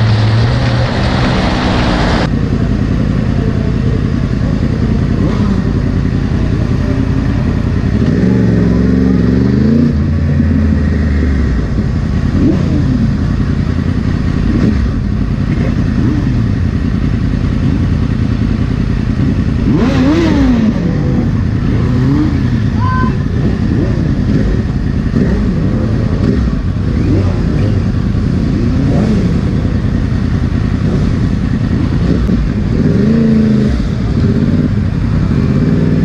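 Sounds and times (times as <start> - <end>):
motorcycle engine revving: 0.0 - 36.0
other motorcycles riding: 0.0 - 36.0.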